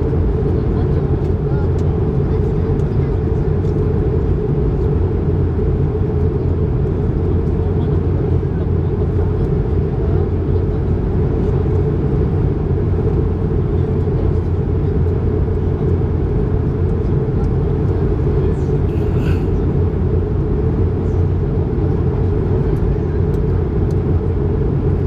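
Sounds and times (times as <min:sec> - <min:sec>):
airplane cabin roar: 0:00.0 - 0:25.0.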